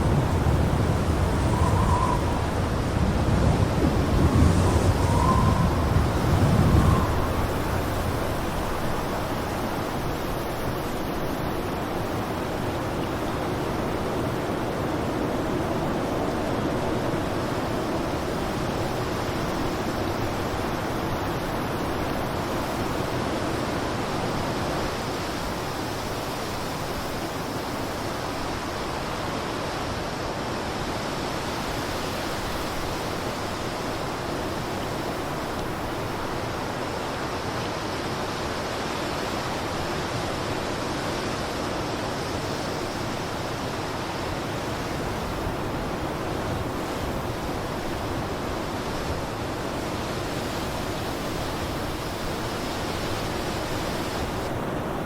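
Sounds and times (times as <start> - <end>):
blizzard wind blowing: 0.0 - 29.8, 30.8 - 55.0.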